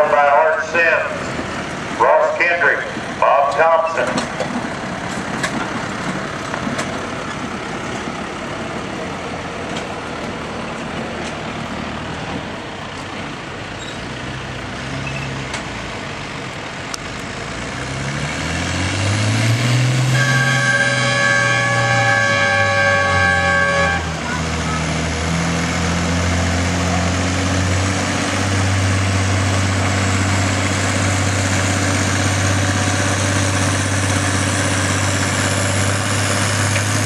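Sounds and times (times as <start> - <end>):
tractor engine revving: 0.0 - 37.0.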